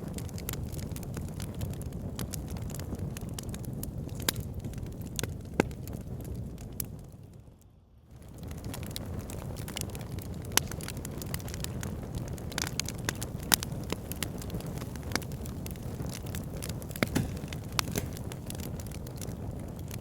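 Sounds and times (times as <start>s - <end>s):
wood crackling and popping: 0.0s - 7.2s, 8.2s - 20.0s
fire burning with low rumble: 0.0s - 20.0s.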